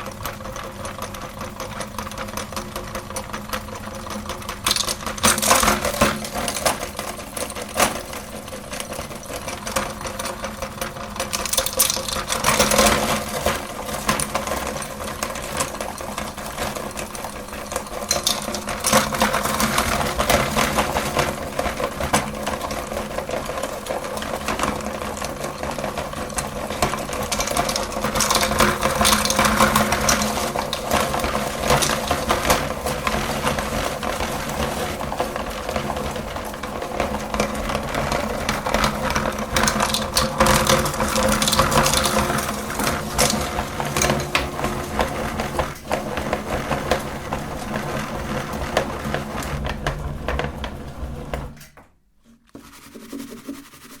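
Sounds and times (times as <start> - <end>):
candy crackling in grinder: 0.0 - 51.5
meat grinder motor humming: 0.0 - 51.6.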